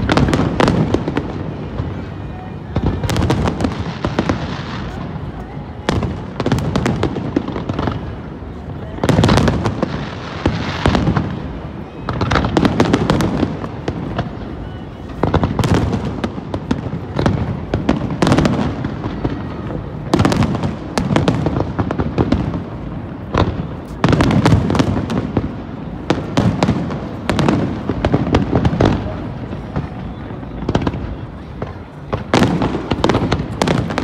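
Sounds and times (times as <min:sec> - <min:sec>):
fireworks bursting: 0:00.0 - 0:34.0
fireworks crackling: 0:00.0 - 0:34.0.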